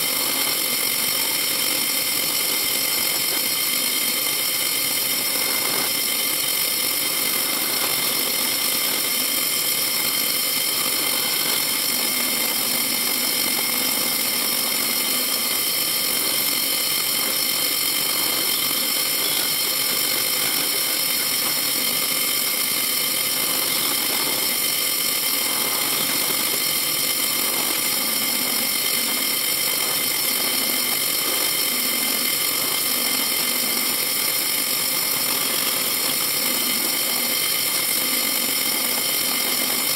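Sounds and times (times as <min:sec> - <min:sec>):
drill press motor whining: 0:00.0 - 0:39.9.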